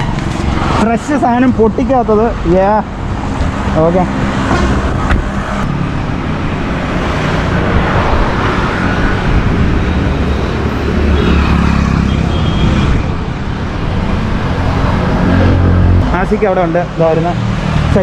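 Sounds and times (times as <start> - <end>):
road and traffic noise: 0.0 - 18.0.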